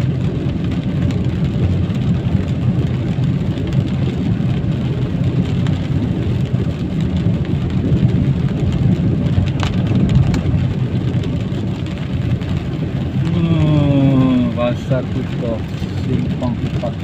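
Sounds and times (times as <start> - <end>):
rain: 0.0 - 17.0
tyres on wet road: 0.0 - 17.0
vehicle engine rumble: 0.0 - 17.0.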